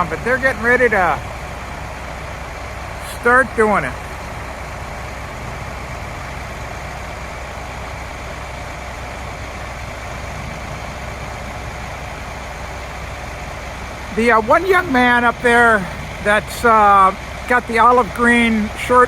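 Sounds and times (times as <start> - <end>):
diesel truck engines running: 0.0 - 19.0.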